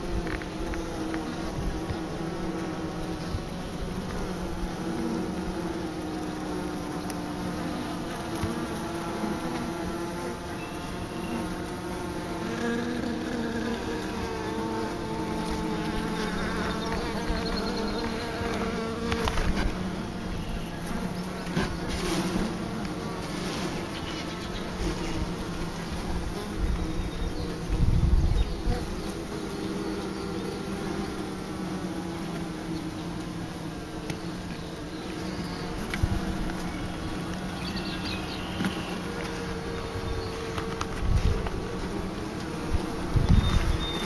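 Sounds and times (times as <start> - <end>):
bees humming: 0.0 - 44.0.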